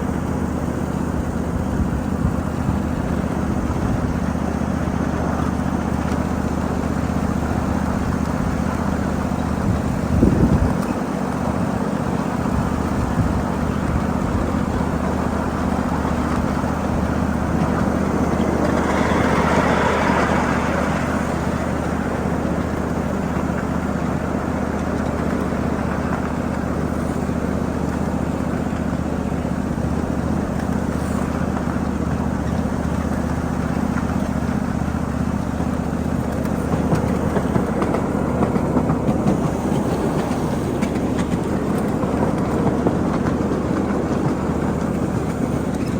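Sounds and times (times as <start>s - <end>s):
miniature train wheels rumbling: 0.0s - 45.9s.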